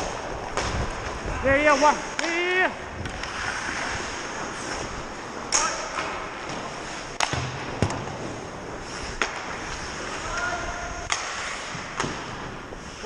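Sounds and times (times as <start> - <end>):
hockey sticks and puck clacking: 0.0 - 13.0
skates scraping on ice: 0.0 - 13.0.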